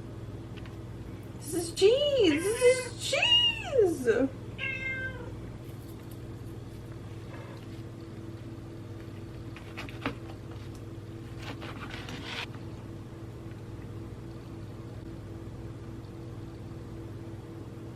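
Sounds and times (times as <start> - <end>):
low mechanical hum: 0.0 - 17.9.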